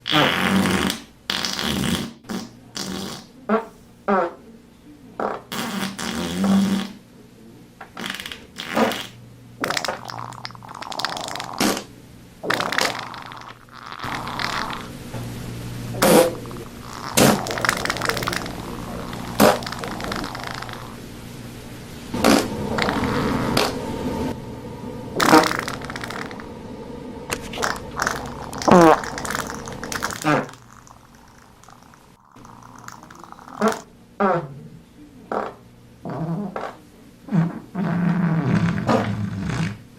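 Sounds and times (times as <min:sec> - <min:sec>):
fart sound effects: 0:00.0 - 0:04.4, 0:05.2 - 0:07.0, 0:08.0 - 0:15.0, 0:15.9 - 0:21.0, 0:22.1 - 0:23.8, 0:25.2 - 0:26.5, 0:27.3 - 0:34.5, 0:35.3 - 0:39.8.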